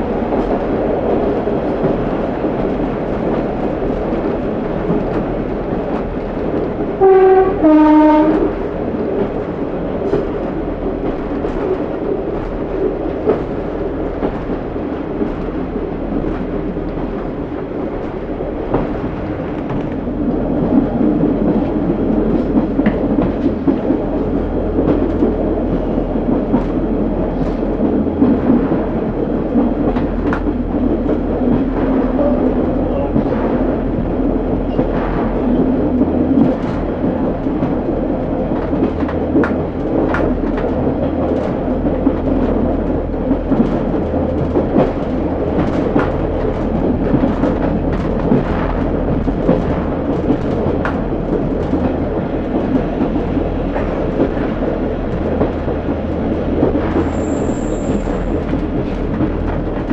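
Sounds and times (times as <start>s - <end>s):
railbus rumbling: 0.0s - 59.9s.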